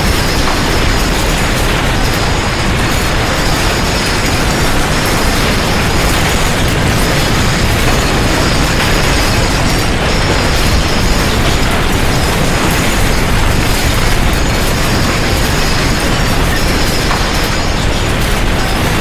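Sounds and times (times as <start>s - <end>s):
earthquake rumbling and rattling: 0.0s - 19.0s.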